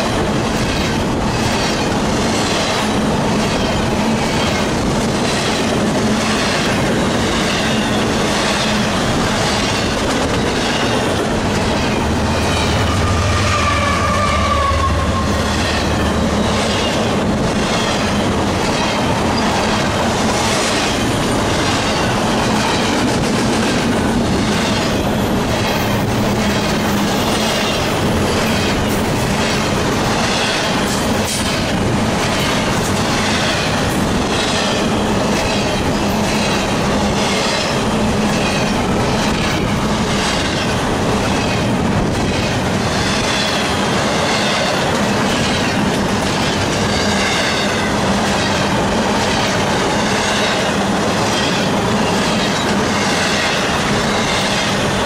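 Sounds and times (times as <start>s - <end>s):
freight train rumble: 0.0s - 55.0s
train wheels clattering: 0.0s - 55.0s.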